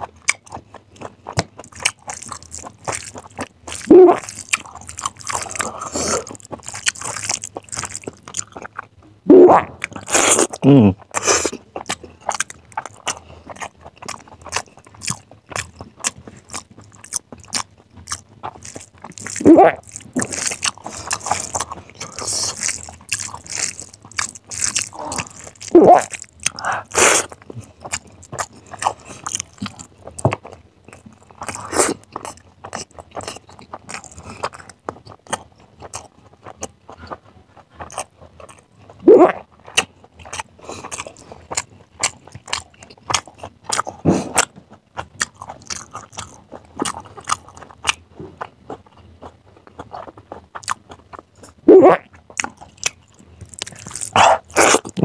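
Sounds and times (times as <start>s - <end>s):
wet chewing mouth sounds: 0.0s - 9.0s, 9.6s - 55.0s.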